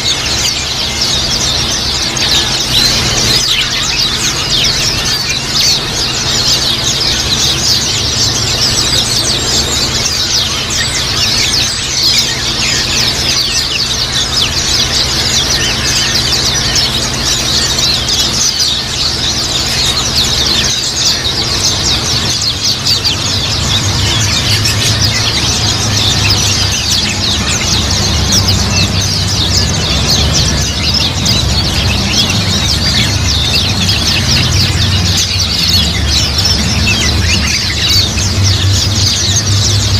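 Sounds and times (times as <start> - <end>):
flock of birds twittering: 0.0 - 39.9.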